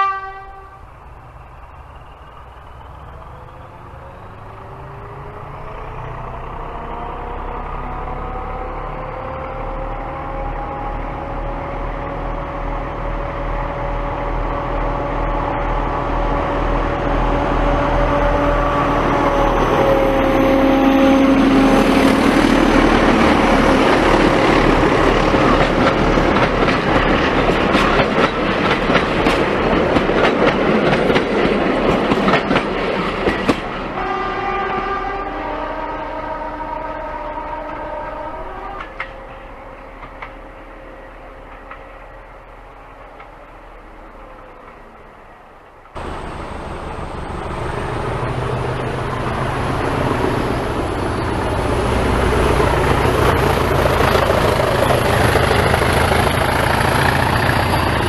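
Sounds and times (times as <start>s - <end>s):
train engine passing: 0.0s - 58.0s.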